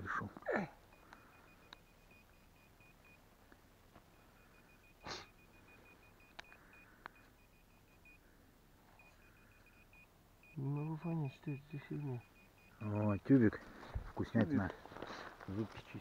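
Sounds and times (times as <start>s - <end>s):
metal detector beeping: 0.8s - 3.3s, 4.0s - 14.4s.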